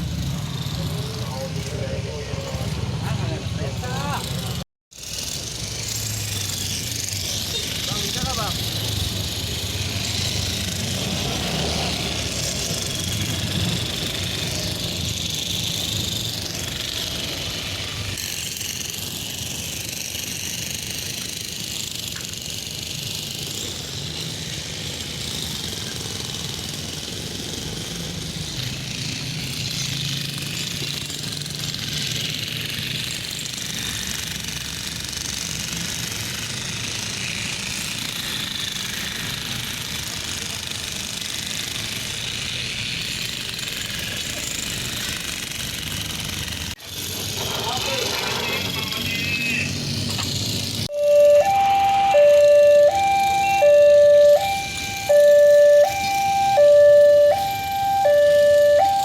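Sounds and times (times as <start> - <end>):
engines running: 0.0 - 59.0.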